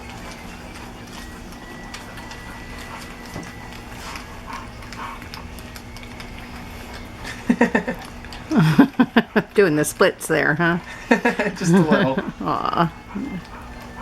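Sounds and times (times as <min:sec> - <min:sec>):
puppies lapping food: 0:00.0 - 0:14.0.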